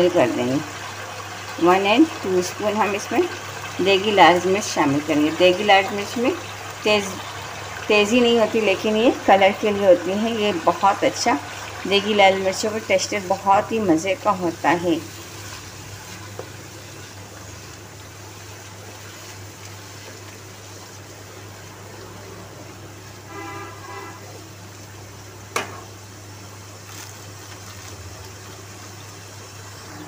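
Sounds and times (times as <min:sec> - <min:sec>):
sizzling in a pan: 0:00.0 - 0:30.0.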